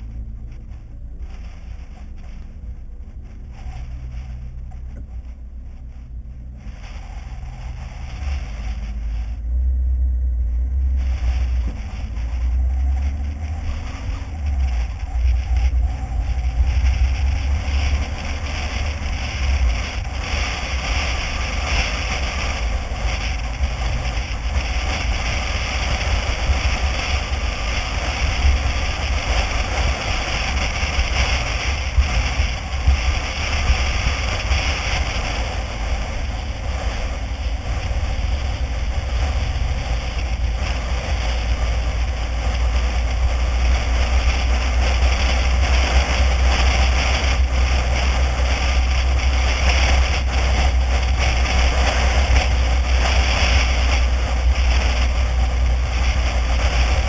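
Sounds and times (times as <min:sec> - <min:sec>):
car driving away: 0:00.0 - 0:57.0
road and wind hiss: 0:00.0 - 0:57.0.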